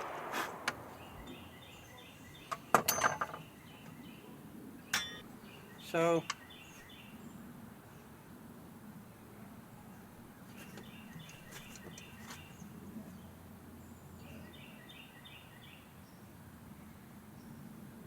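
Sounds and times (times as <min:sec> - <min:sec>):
faint bird chirping: 0:00.0 - 0:08.1, 0:09.7 - 0:17.6.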